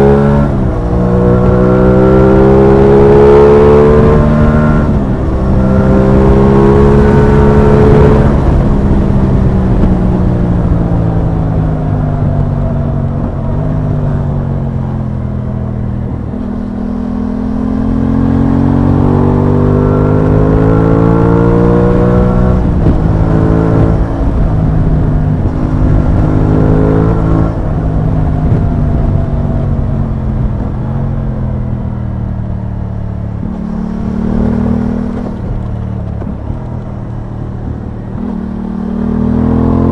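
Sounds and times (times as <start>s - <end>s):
motorcycle engine: 0.0s - 39.9s
rush of wind: 0.0s - 39.9s.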